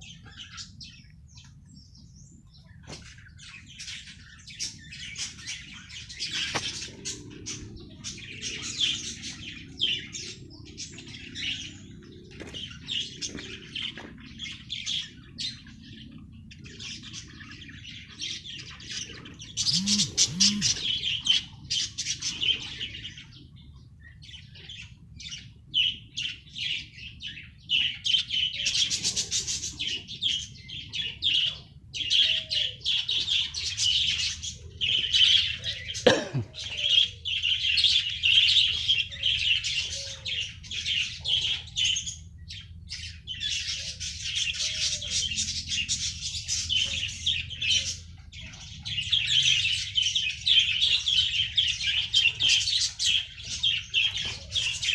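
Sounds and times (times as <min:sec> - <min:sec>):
budgerigars chattering and chirping: 0:00.0 - 0:54.9.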